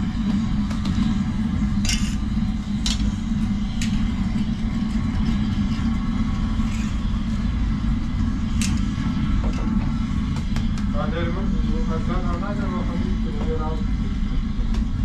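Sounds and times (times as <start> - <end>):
oven burner rumbling: 0.0 - 15.0.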